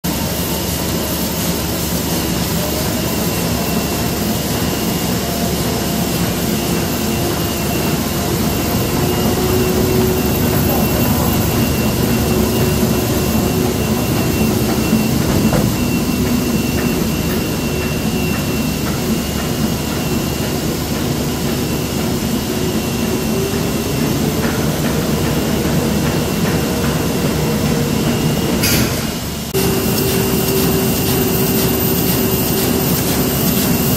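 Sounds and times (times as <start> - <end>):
printing press running: 0.1 - 33.9.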